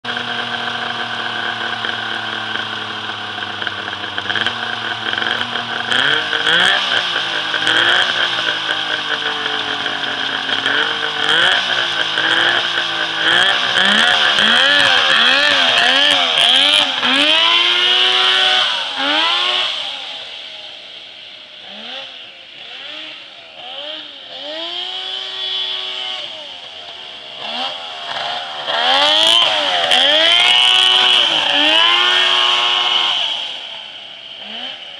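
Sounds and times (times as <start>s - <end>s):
engine revving: 0.0s - 34.9s.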